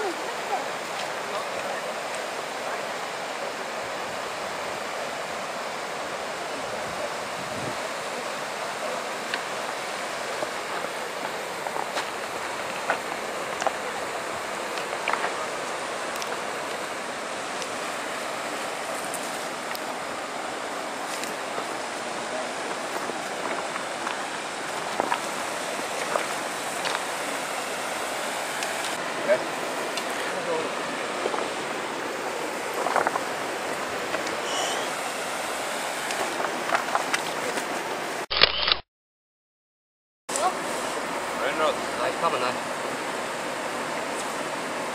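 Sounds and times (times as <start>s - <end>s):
river water flowing over rocks: 0.0s - 38.2s, 40.3s - 44.9s.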